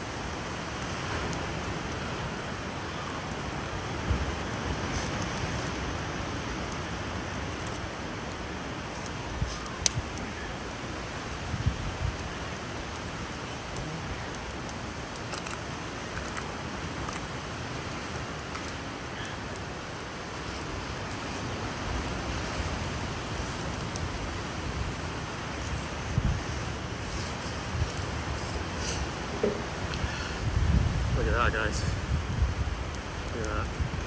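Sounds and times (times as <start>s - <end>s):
distant ocean surf: 0.0s - 34.0s
wind: 0.0s - 34.0s.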